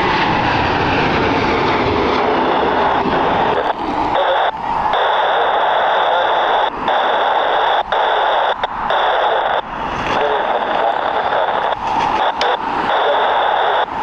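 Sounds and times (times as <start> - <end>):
radio static hiss: 2.1 - 14.0.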